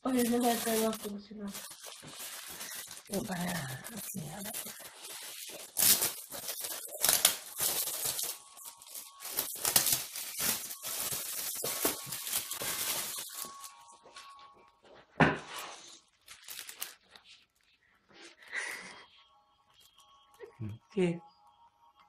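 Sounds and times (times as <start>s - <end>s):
gift wrap rustling and tearing: 0.0s - 14.5s, 15.4s - 18.8s.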